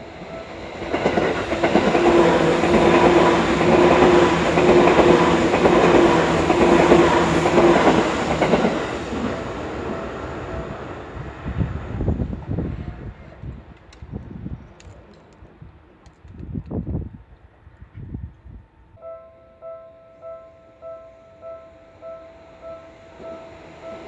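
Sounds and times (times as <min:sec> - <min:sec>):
electric train passing: 0:00.0 - 0:14.1, 0:16.9 - 0:24.0.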